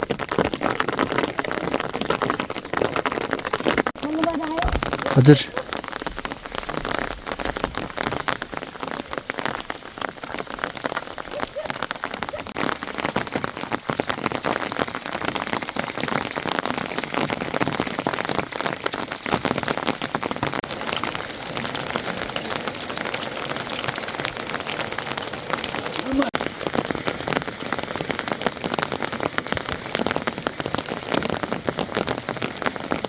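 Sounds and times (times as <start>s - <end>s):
hailstones hitting hard surface: 0.0s - 33.0s
rain hissing: 1.0s - 33.0s.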